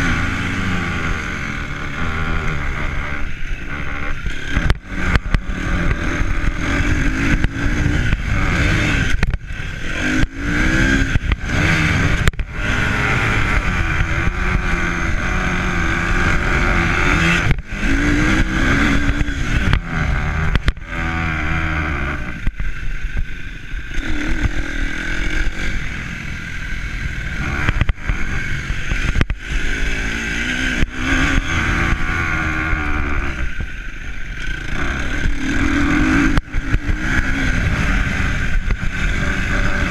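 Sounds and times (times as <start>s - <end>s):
motor engine running: 0.0s - 39.9s.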